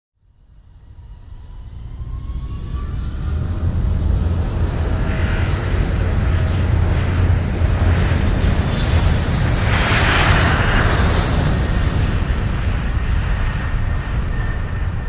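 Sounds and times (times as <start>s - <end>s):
airliner engines running: 0.3s - 15.0s.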